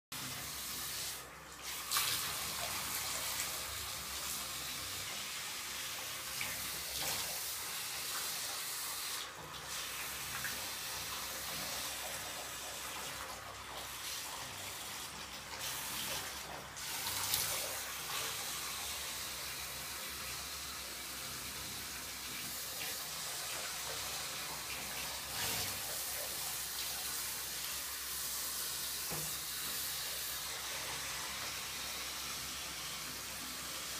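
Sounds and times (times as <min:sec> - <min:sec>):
shower water spraying on fur: 0:00.2 - 0:33.9.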